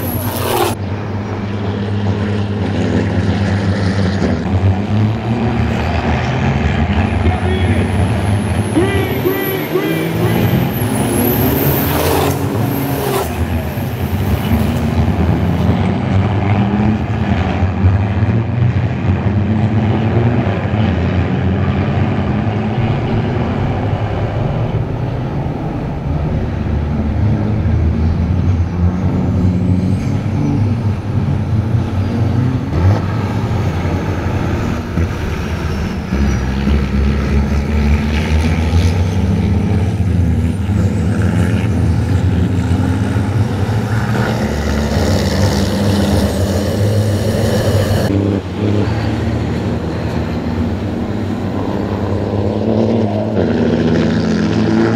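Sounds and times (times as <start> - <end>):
truck diesel engines running hard: 0.0 - 54.9.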